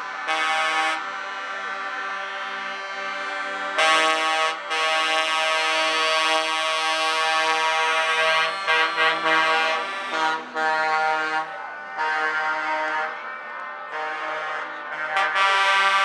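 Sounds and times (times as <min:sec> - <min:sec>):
truck air horns blaring: 0:00.0 - 0:16.0.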